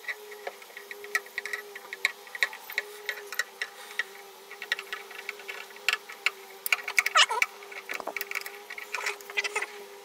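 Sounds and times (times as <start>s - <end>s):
vise grips clicking: 0.0s - 9.7s.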